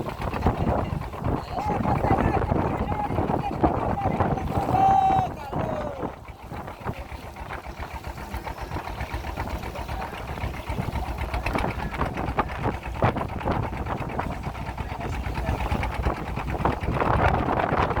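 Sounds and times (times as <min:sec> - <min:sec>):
small boat engine chugging: 0:00.0 - 0:18.0.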